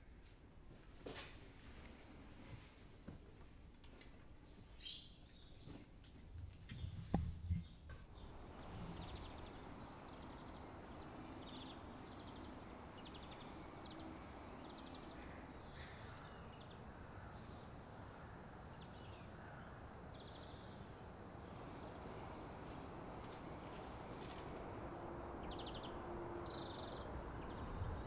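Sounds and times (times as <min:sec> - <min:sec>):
faint outdoor background noise: 0:00.0 - 0:28.0.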